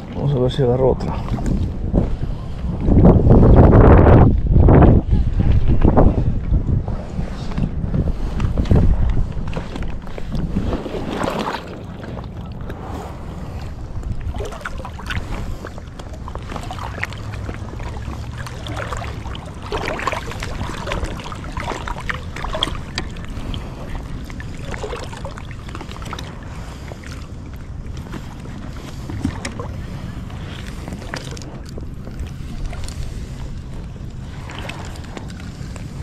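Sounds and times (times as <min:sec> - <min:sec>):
small waves lapping and splashing: 0:00.0 - 0:03.7, 0:04.8 - 0:36.0
wind rumble on microphone: 0:00.0 - 0:36.0.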